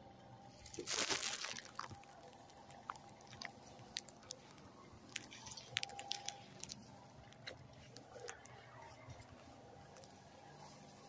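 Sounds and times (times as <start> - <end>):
plants rustling against phone: 0.5 - 11.0.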